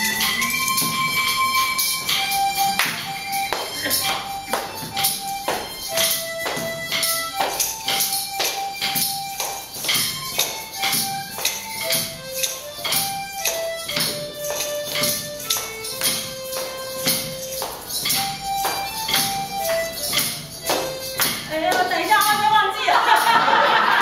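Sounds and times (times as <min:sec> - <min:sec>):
hand percussion: 0:00.0 - 0:24.0
harmonicas playing: 0:00.0 - 0:24.0.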